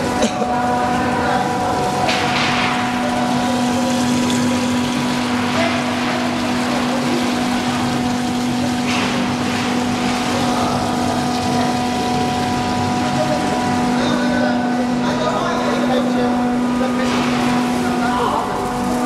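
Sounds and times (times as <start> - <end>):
ice machine humming: 0.0 - 19.0.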